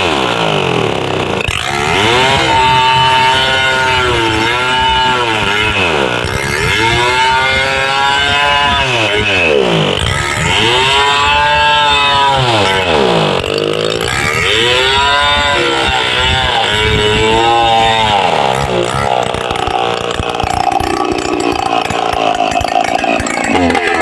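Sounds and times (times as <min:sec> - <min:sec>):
chainsaw engine revving: 0:00.0 - 0:24.0.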